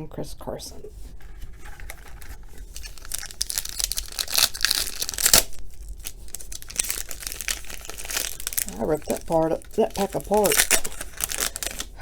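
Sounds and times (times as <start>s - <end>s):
plastic foil wrapper tearing and crinkling: 1.6s - 12.0s.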